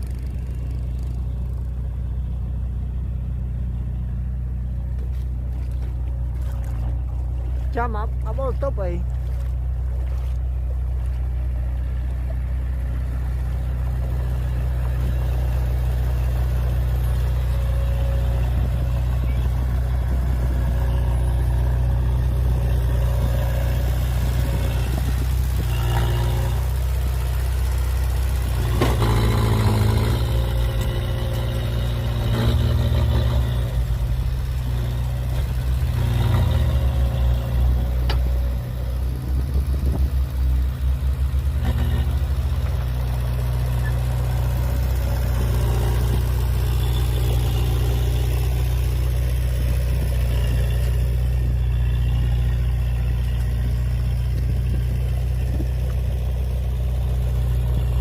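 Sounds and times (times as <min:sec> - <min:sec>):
heavy diesel engine running under load: 0:00.0 - 0:58.0.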